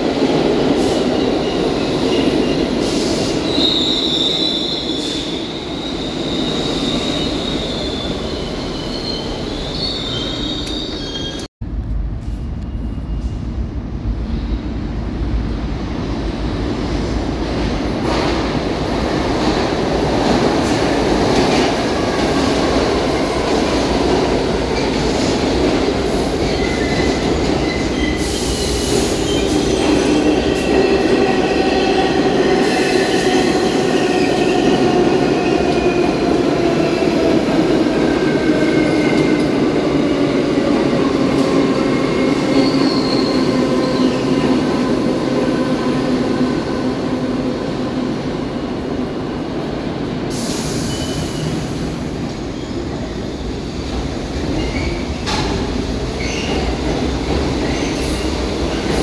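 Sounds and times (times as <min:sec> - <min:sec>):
subway train rumble: 0:00.0 - 0:59.0.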